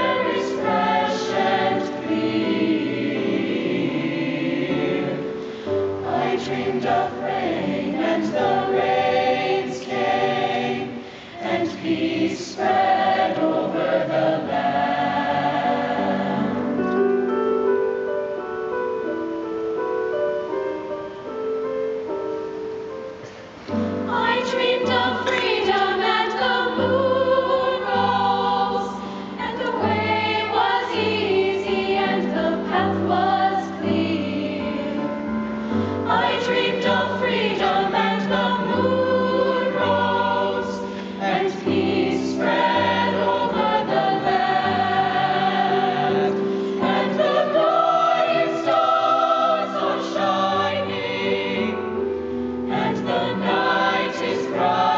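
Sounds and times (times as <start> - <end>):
youth choir singing: 0.0 - 16.8, 23.8 - 54.9
piano accompaniment: 0.0 - 54.9.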